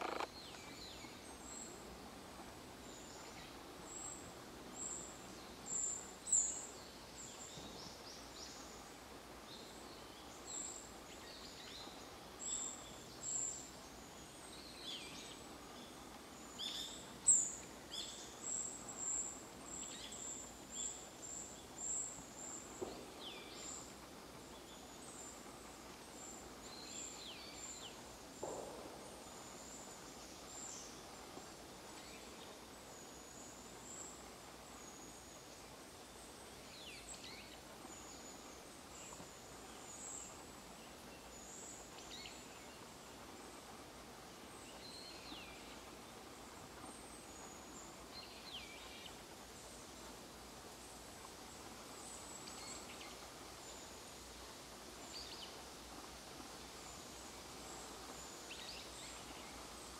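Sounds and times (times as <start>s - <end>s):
woodland background hiss: 0.0s - 59.9s.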